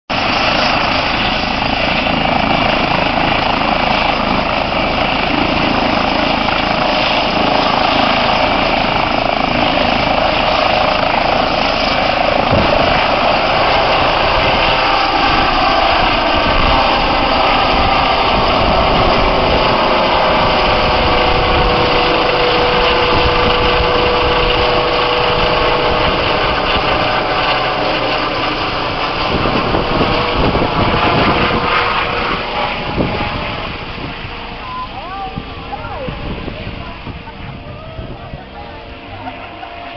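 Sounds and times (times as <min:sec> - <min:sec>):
helicopter rotor and engines: 0:00.1 - 0:39.9
steady turbine whine: 0:00.1 - 0:39.9.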